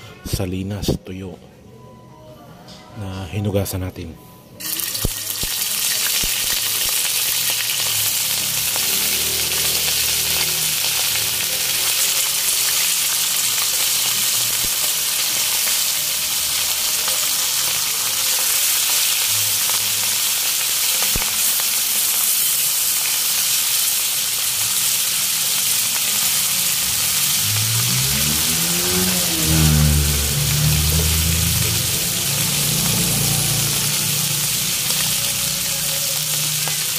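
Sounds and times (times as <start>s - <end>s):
fish sizzling in hot oil: 4.6s - 36.9s.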